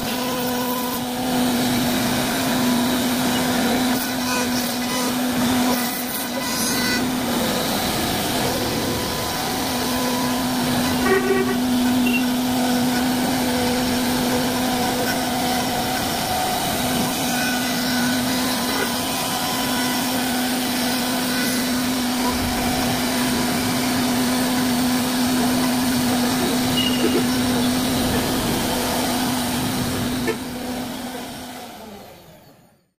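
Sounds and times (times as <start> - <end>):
router cutting wood: 0.0 - 32.8
cnc router humming: 0.0 - 33.0.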